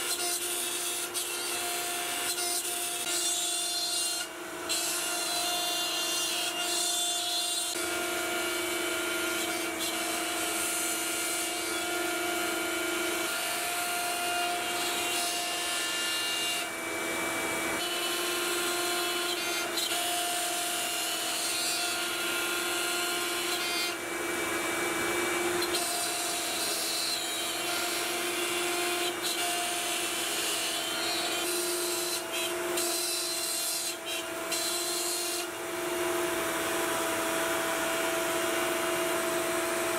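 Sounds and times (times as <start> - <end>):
high whine of router bit: 0.0 - 39.9
router milling wood: 0.0 - 39.9.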